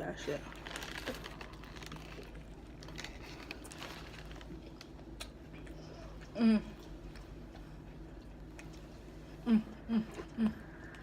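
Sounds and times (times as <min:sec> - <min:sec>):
chewing sandwich: 0:00.5 - 0:09.4.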